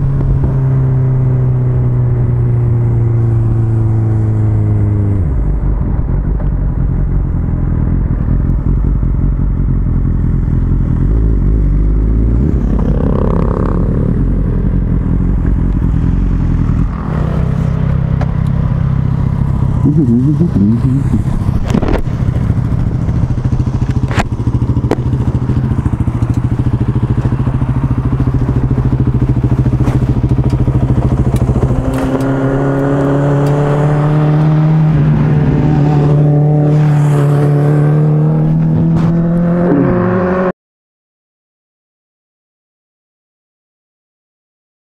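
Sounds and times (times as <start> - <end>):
motorcycle engine revving: 0.0 - 40.5.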